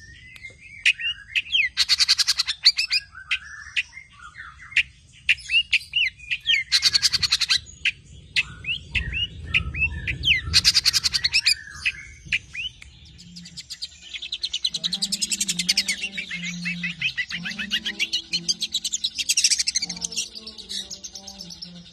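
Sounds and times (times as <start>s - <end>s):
shrike singing: 0.0s - 21.9s.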